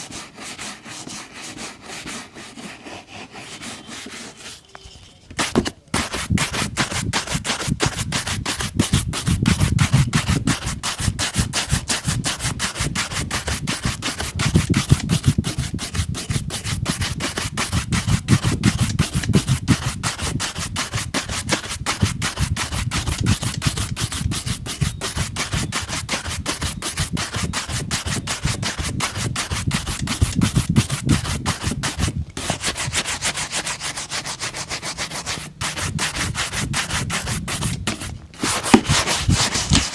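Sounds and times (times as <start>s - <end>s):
brush scrubbing leather boot: 0.0s - 4.6s, 5.4s - 39.9s.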